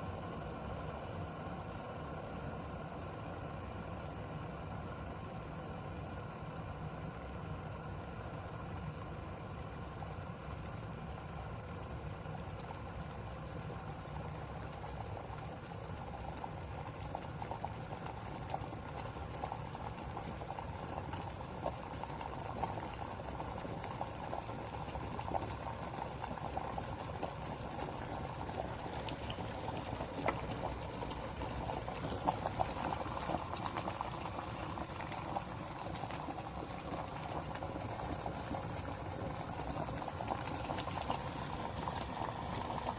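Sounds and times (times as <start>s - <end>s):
kettle rumbling and bubbling: 0.0s - 42.9s.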